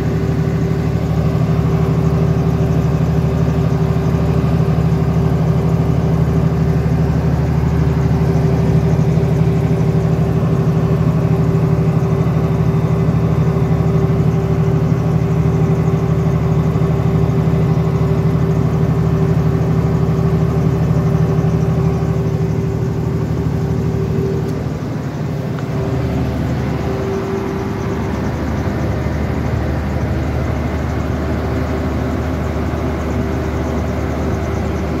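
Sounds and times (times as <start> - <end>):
generator engine humming: 0.0 - 35.0.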